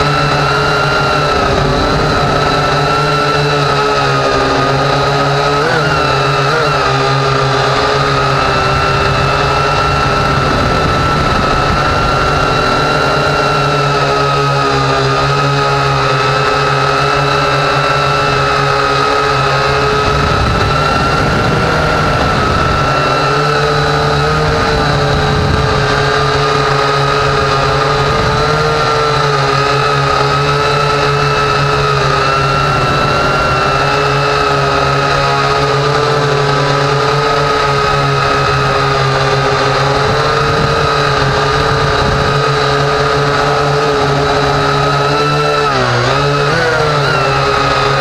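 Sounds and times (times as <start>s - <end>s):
drone motors whining: 0.0s - 48.0s.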